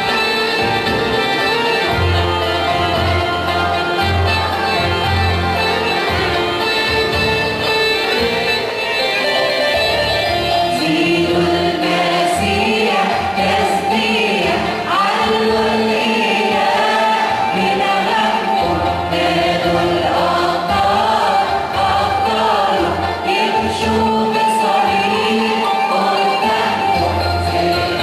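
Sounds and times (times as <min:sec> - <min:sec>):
choir singing a hymn: 0:00.0 - 0:28.0
instrumental accompaniment: 0:00.0 - 0:28.0.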